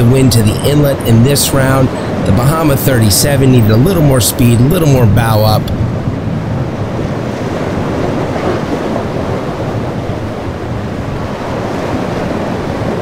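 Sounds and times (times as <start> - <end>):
waves and surf churning: 0.0 - 13.0
wind rushing over microphone: 0.0 - 13.0.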